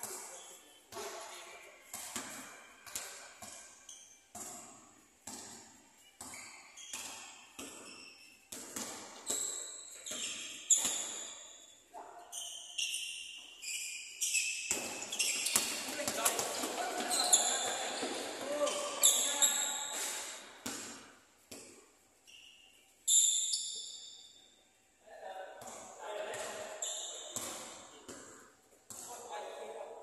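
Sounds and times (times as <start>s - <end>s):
basketball bouncing in a gym: 0.0s - 13.6s, 14.2s - 22.0s, 25.5s - 29.8s
sneakers squeaking on court: 0.0s - 24.4s, 25.6s - 29.2s.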